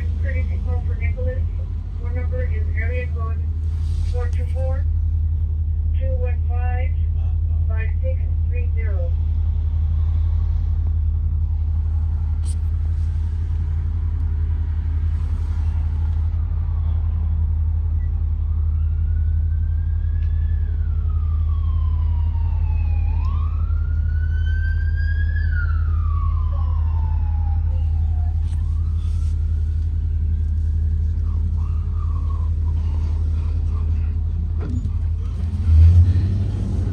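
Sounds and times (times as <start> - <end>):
emergency siren wailing: 0.0 - 5.0, 7.8 - 36.9
bus engine running: 0.0 - 36.9.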